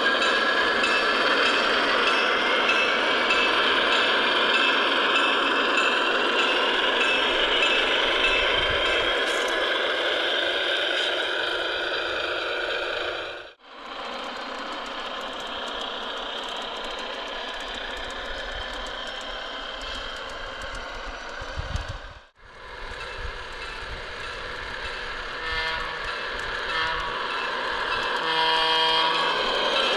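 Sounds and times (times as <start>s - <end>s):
model diesel locomotive engine sound: 0.0s - 29.9s
model train rattling: 0.0s - 29.9s.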